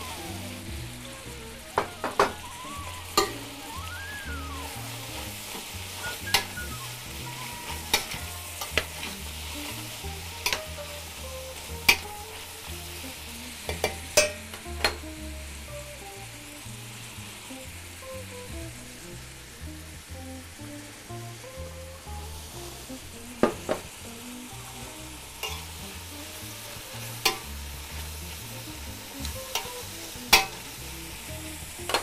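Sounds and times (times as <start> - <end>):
meat and onions sizzling: 0.0 - 32.0.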